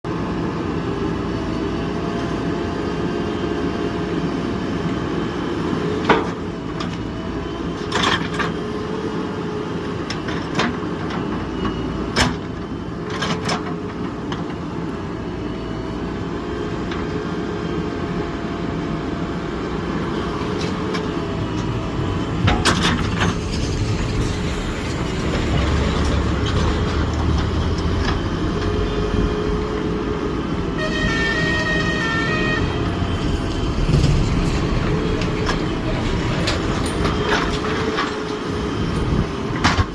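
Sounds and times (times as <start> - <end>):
diesel engine running under load: 0.1 - 39.9.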